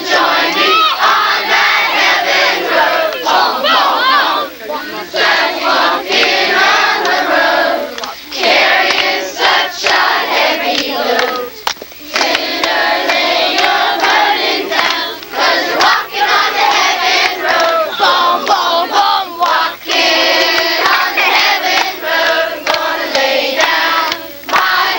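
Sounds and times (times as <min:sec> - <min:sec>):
children singing and shouting: 0:00.0 - 0:24.9.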